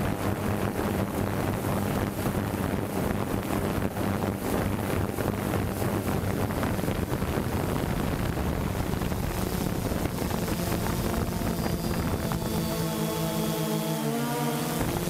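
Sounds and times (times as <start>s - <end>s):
wind buffeting microphone: 0.0s - 13.9s, 14.6s - 15.0s
drone propellers whirring: 0.0s - 15.0s.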